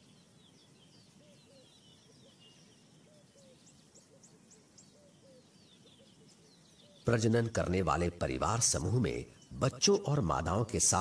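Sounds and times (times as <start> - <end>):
faint birdsong chirping: 0.0 - 11.0
soft low bird calls: 0.0 - 11.0.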